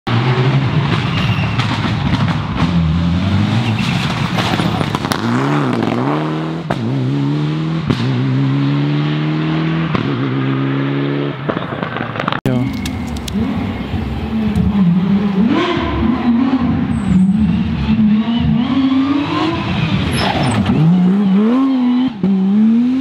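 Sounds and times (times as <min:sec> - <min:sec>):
rally car engine accelerating: 0:00.1 - 0:11.6, 0:12.6 - 0:23.0.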